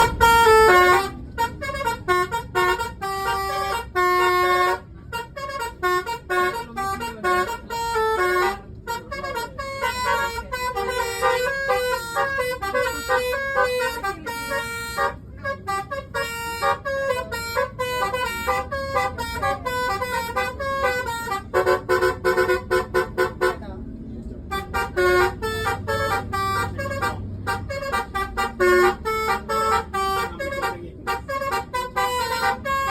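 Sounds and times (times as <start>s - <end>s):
bus horn playing a tune: 0.0s - 32.9s.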